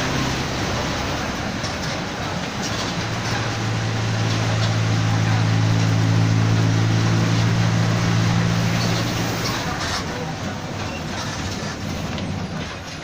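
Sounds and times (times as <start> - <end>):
bus differential growling drone: 0.0 - 13.0
road noise: 0.0 - 13.0.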